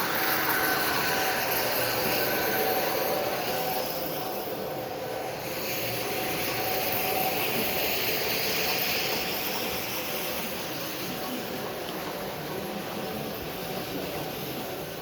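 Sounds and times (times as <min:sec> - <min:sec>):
model train whirring: 0:00.0 - 0:15.0.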